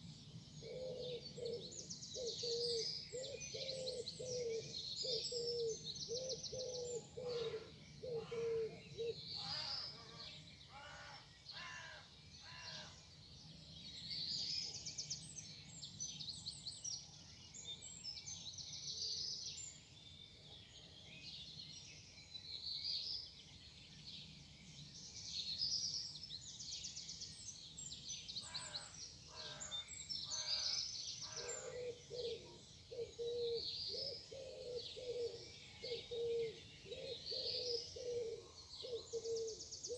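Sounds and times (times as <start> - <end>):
birds singing trills: 0.0 - 39.9.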